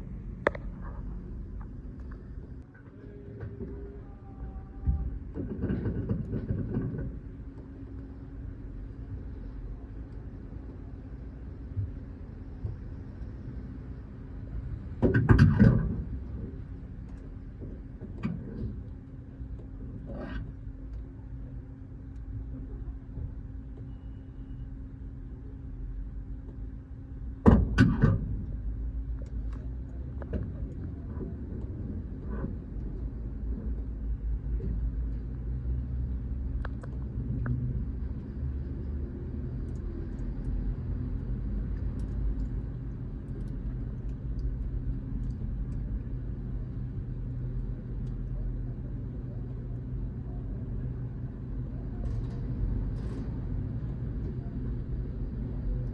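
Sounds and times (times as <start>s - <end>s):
car wash machinery rumbling: 0.0s - 55.9s.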